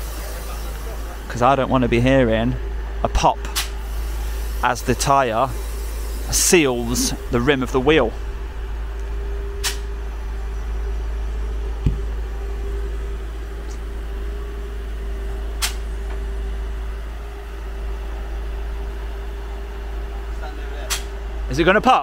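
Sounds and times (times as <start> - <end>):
air compressor humming: 0.0 - 22.0.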